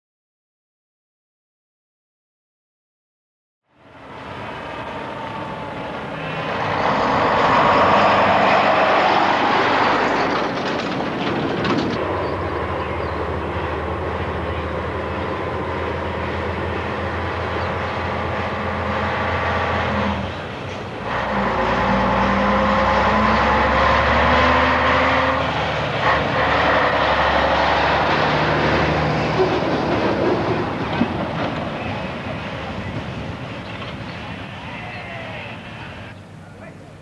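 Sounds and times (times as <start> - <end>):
truck passing by: 3.7 - 36.4
lorry diesel engine approaching: 3.7 - 37.0.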